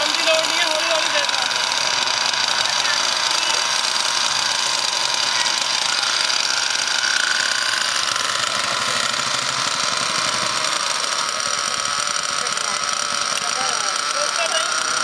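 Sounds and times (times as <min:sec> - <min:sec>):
model engine idling buzz: 0:00.0 - 0:15.0.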